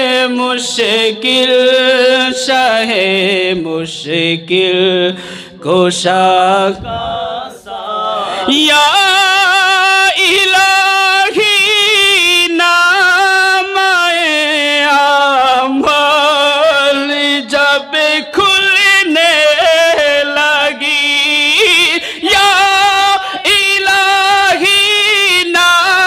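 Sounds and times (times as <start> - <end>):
man singing: 0.0 - 26.0.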